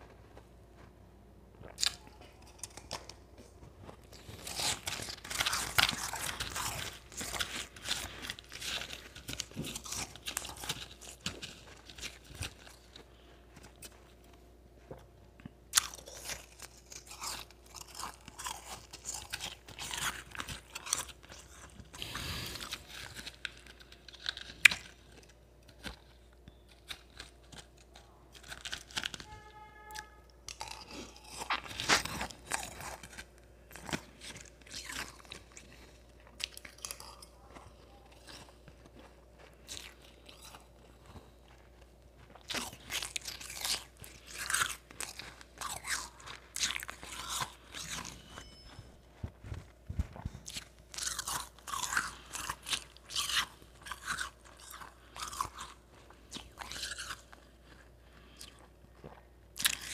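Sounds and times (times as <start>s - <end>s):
crunching and chewing ice: 1.6s - 59.9s.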